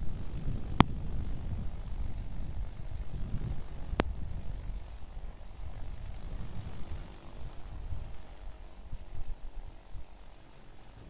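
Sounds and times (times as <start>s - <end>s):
light aircraft engine running: 0.0s - 11.0s
wind buffeting microphone: 0.0s - 11.0s.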